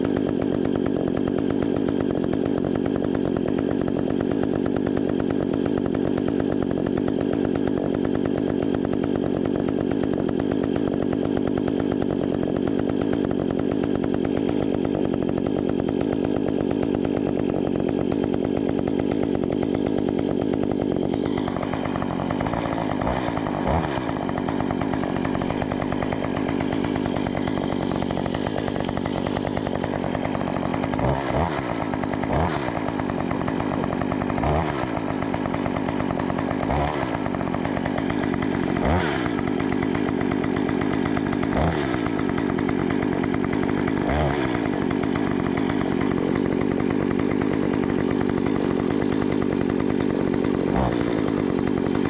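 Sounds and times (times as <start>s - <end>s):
chainsaw engine running: 0.0s - 52.0s.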